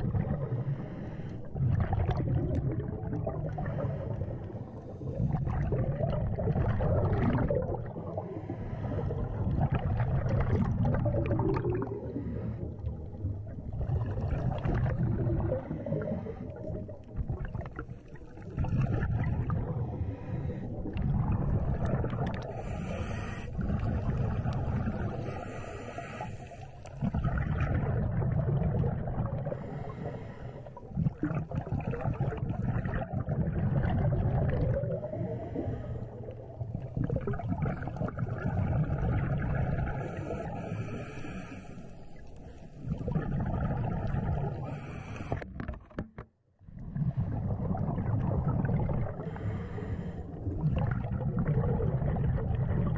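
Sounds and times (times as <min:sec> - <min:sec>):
exhaled bubbles gurgling underwater: 0:00.0 - 0:52.9.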